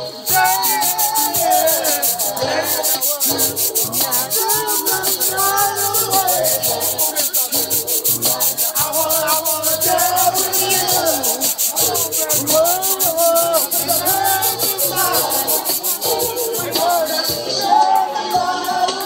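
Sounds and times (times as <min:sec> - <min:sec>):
fast hissy beat: 0:00.0 - 0:18.0.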